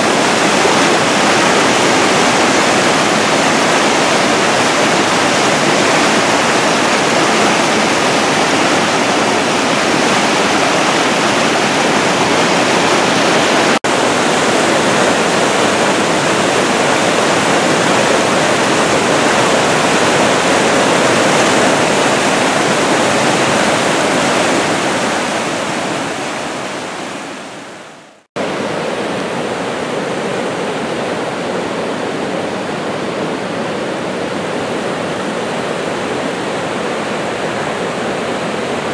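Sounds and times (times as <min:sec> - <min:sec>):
rushing brook rapids: 0:00.0 - 0:38.9.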